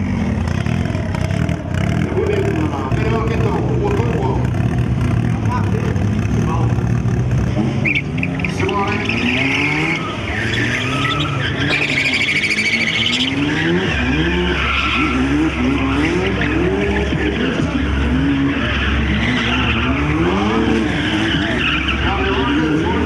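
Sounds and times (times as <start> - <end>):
car engines revving: 0.0 - 23.0
deep engine rumble: 0.0 - 23.0
tyres squealing on asphalt: 0.0 - 23.0.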